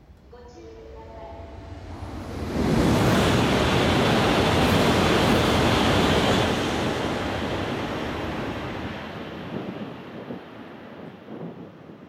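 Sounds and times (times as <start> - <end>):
high-speed train rushing by: 0.0 - 12.0.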